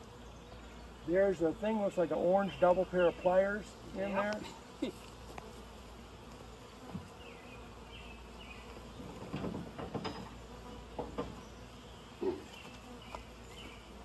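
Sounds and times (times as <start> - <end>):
bee swarm buzzing: 0.0 - 14.0.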